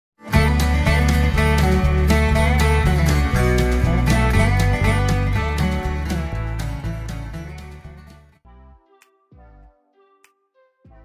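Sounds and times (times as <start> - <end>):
intro music: 0.3 - 9.7.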